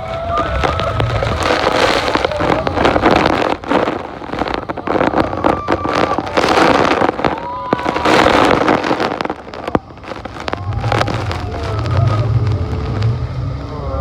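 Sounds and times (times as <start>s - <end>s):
passengers shrieking: 0.0s - 13.1s.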